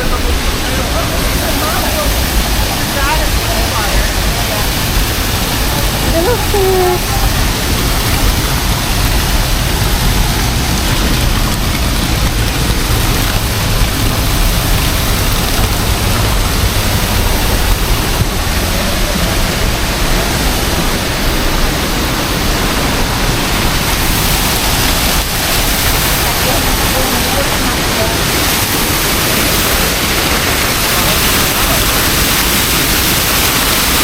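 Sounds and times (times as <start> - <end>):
waterfall pouring: 0.0 - 34.0.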